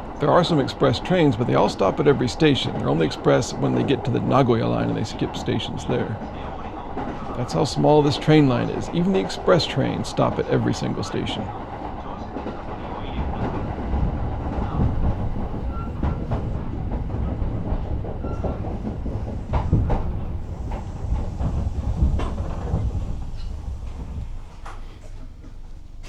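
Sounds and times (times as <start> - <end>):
electric train rumbling: 0.0 - 26.0
wheels clacking over rail joints: 0.9 - 26.0.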